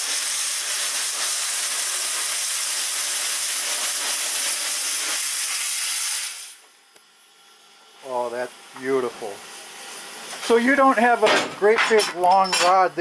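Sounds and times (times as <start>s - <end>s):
steam hissing from firebox: 0.0s - 6.8s, 7.4s - 13.0s.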